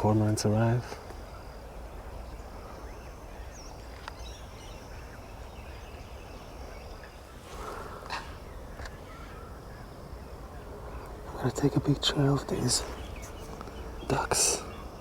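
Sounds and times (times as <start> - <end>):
faint high bird chirps: 0.0 - 15.0.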